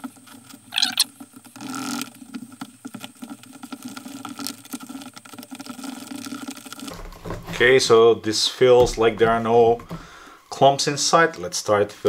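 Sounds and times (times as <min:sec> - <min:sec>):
stick scraping plastic bucket: 0:00.0 - 0:10.3
wet plaster churning: 0:00.0 - 0:10.8.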